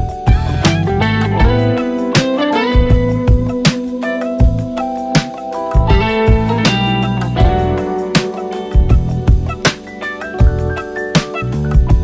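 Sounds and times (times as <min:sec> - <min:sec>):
instrumental music over a beat: 0:00.0 - 0:12.0.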